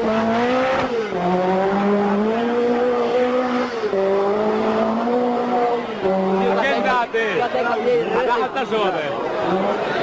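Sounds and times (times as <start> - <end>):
rally car engine revving high: 0.0 - 10.0.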